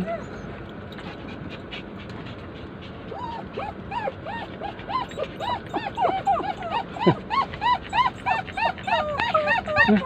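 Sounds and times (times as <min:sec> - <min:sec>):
dogs whimpering: 0:00.0 - 0:10.0
steady background hum: 0:00.0 - 0:10.0.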